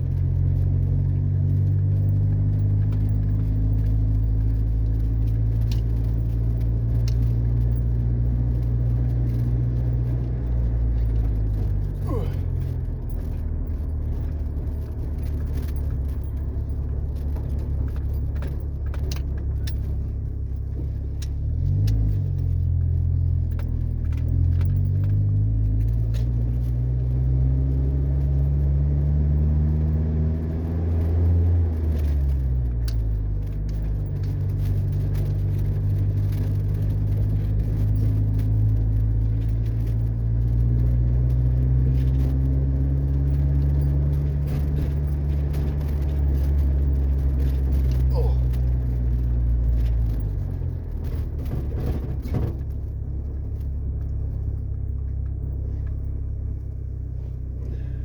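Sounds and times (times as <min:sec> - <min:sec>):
light rattles and clicks: 0:00.0 - 0:58.0
pickup truck engine pulling: 0:00.0 - 0:58.0.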